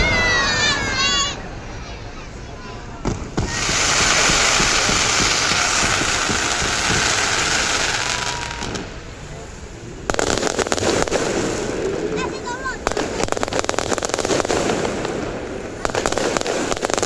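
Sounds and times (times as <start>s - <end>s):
fireworks crackling hiss: 0.0s - 17.0s
fireworks sharp cracks: 3.0s - 17.0s.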